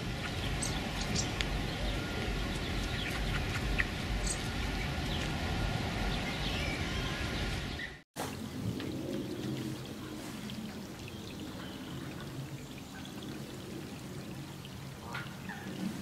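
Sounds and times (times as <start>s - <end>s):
low outdoor background noise: 0.0s - 16.0s.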